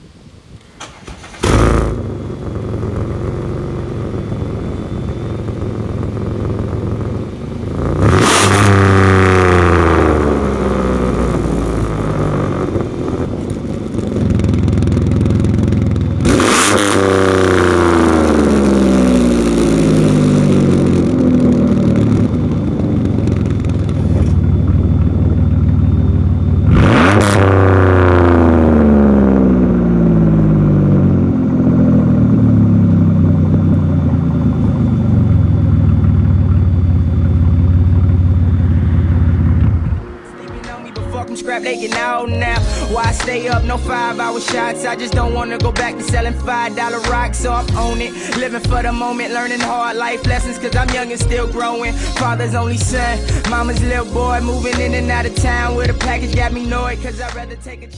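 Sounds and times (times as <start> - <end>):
car engine idling and revving: 0.6 - 57.9.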